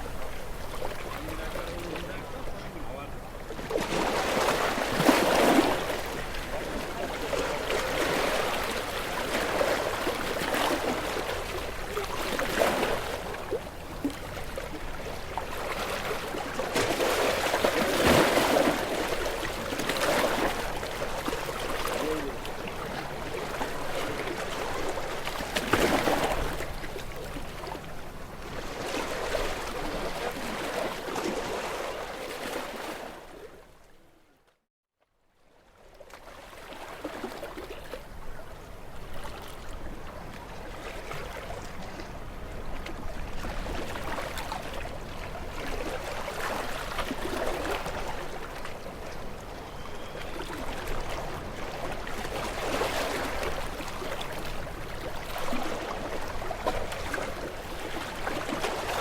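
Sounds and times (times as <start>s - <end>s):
waves splashing against rocks: 0.0s - 33.5s, 39.0s - 59.0s.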